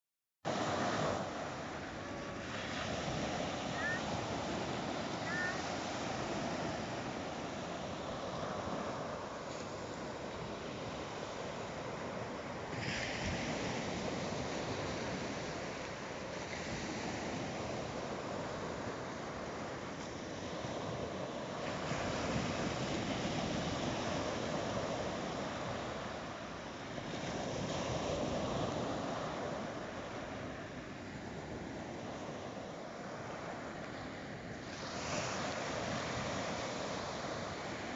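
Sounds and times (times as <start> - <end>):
sea waves breaking on shore: 0.5 - 37.9.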